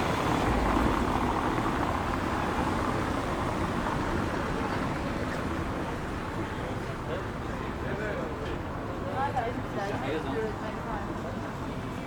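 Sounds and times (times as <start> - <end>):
steady traffic noise: 0.0 - 12.0.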